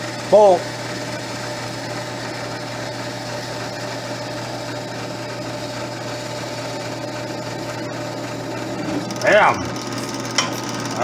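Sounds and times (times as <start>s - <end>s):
drill press motor running: 0.0s - 11.0s.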